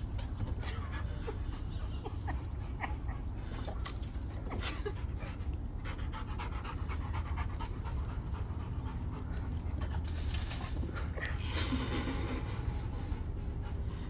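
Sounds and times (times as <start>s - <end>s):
dog panting: 0.0s - 11.4s, 12.1s - 14.0s.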